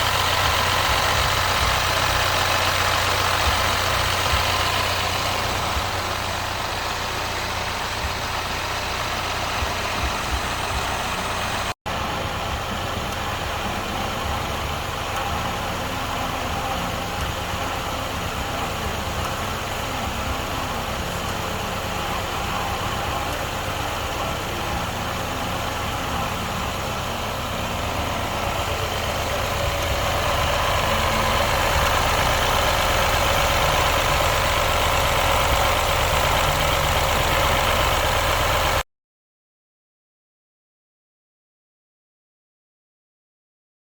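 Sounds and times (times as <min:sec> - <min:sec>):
car engine idling: 0:00.0 - 0:38.8.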